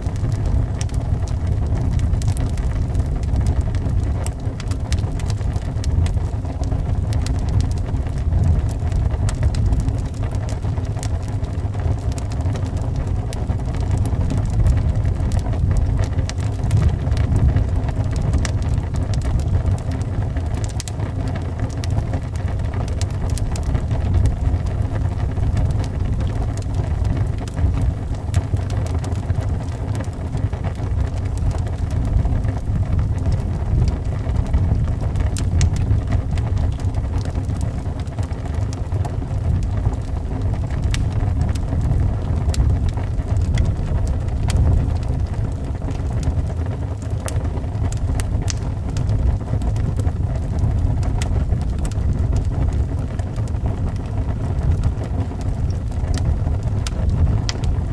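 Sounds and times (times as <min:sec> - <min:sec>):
low wind rumble: 0:00.0 - 0:57.9
wood fire crackling: 0:00.0 - 0:57.9.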